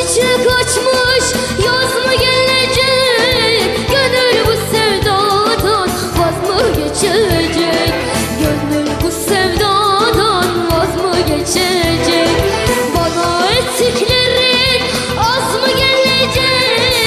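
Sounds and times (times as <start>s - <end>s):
girl singing: 0.0s - 17.0s
instrumental accompaniment with beat: 0.0s - 17.0s.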